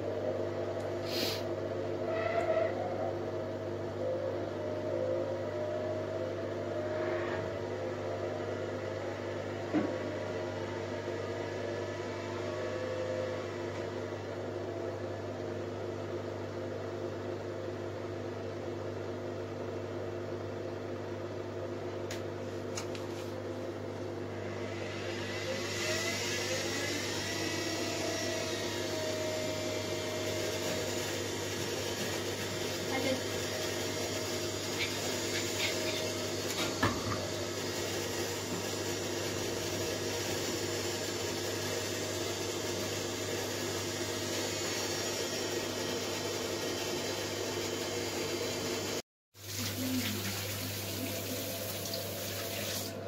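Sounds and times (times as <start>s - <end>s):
washing machine running: 0.0s - 53.0s.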